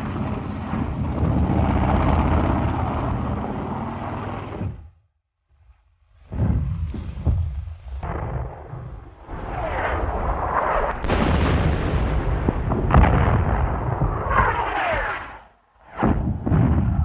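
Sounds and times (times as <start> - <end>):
artillery rumble: 0.0 - 5.0, 6.2 - 17.0.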